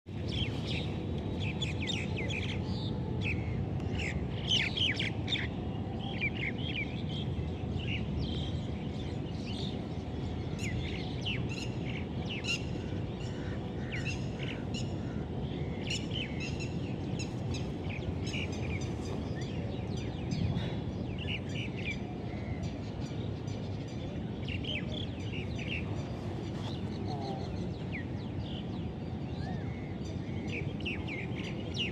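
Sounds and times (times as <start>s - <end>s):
small birds chirping: 0.1s - 31.9s.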